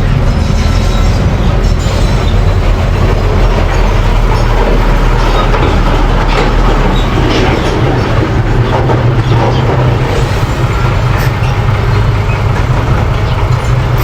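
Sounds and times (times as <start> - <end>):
bulldozer engine running: 0.0 - 14.0
rattling clatter: 0.7 - 14.0.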